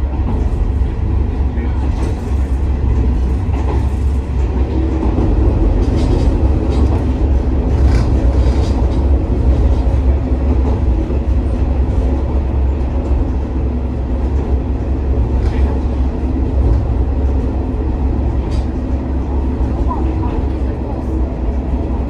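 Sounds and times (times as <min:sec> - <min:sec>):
diesel railcar engine drone: 0:00.0 - 0:22.0.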